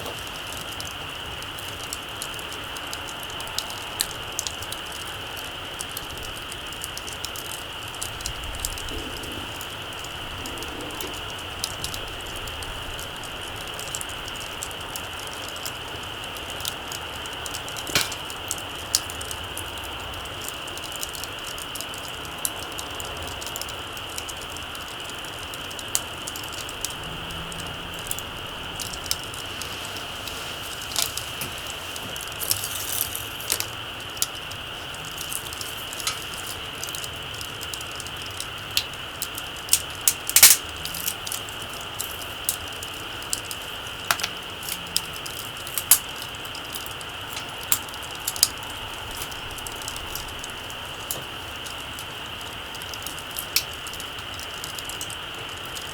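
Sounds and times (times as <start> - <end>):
campfire crackling and popping: 0.0 - 55.9
steady high hiss: 0.0 - 55.9.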